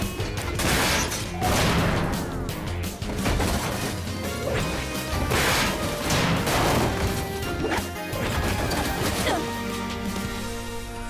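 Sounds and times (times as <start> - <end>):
dramatic action music: 0.0 - 11.0.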